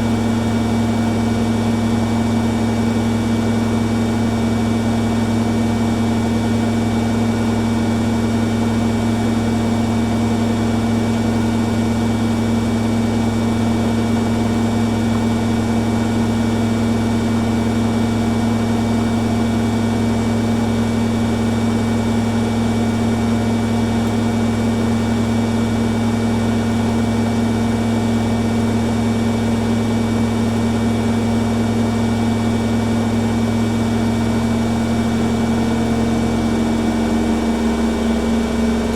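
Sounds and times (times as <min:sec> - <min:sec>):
washing machines spinning: 0:00.0 - 0:38.9.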